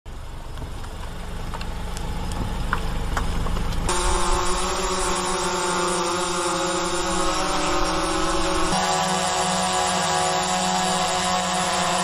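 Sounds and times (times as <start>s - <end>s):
aircraft whine: 0.1s - 12.0s
engine and road rumble: 0.1s - 12.0s.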